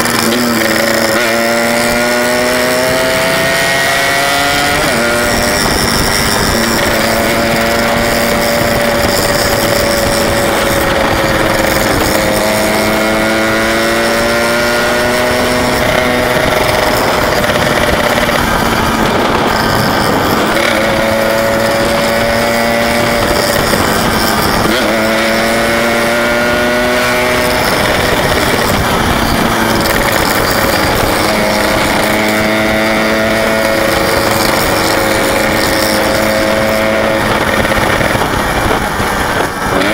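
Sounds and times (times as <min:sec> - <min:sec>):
two-stroke motorcycle engine: 0:00.0 - 0:39.9
wind rush: 0:00.0 - 0:39.9.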